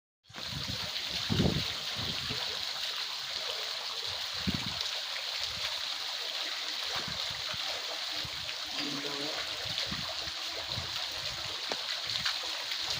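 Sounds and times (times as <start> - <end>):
fountain water trickling: 0.3 - 12.9.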